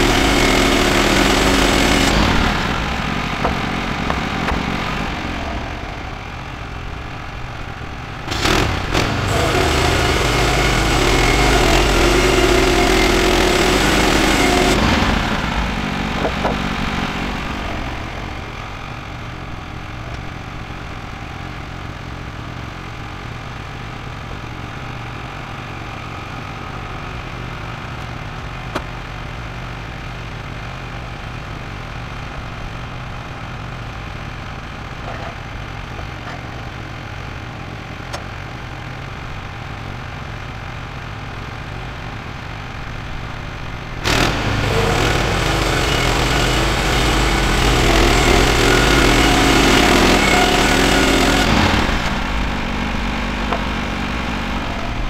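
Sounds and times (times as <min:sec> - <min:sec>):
bandsaw mill engine: 0:00.0 - 0:55.0
engine idling: 0:00.0 - 0:55.0.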